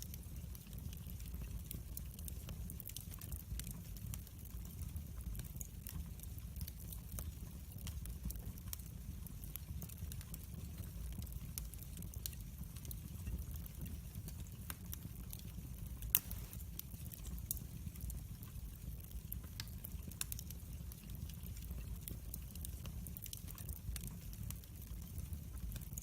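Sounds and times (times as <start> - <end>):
fire crackles and pops: 0.0 - 26.0
fire flames rumbling: 0.1 - 26.0.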